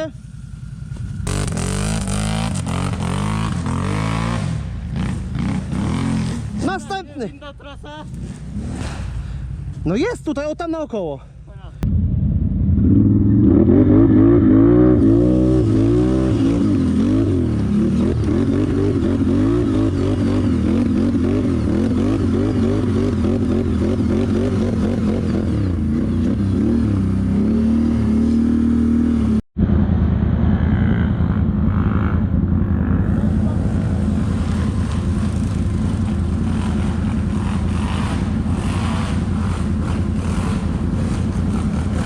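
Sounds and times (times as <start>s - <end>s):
atv engine revving hard: 1.2s - 6.8s, 8.1s - 9.2s, 12.8s - 29.4s, 30.4s - 42.0s.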